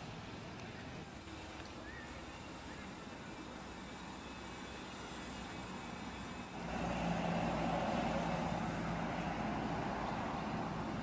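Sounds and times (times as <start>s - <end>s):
motor engine running: 0.0s - 11.0s.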